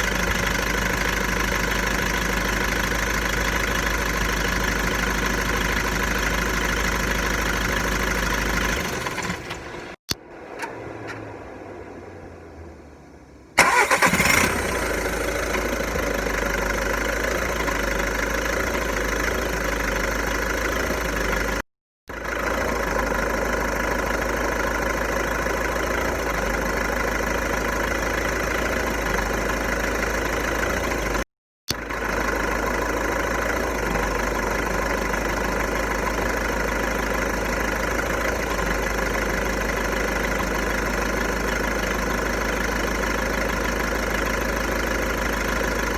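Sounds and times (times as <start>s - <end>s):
diesel engine cranking and idling: 0.0s - 45.9s.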